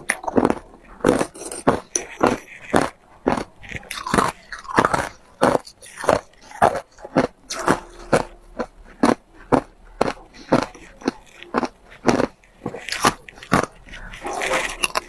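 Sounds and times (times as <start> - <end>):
ice crunching between teeth: 0.0 - 15.0.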